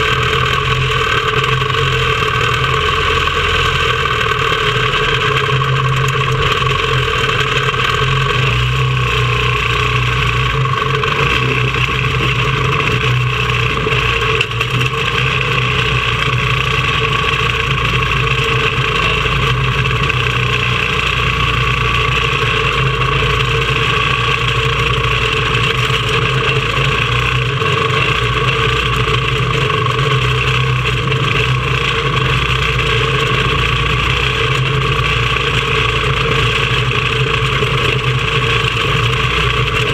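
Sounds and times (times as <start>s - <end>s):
small race car engine running: 0.0s - 39.9s.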